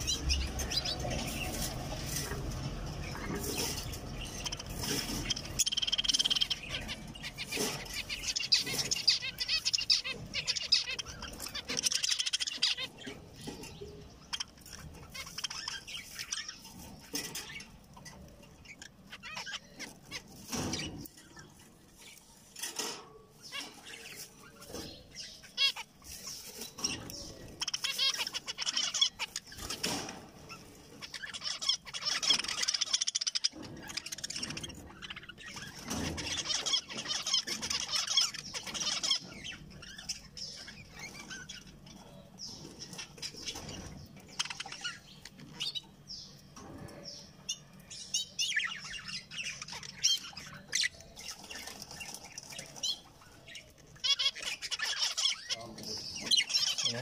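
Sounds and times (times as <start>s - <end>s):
finches calling and chattering: 0.0s - 57.0s.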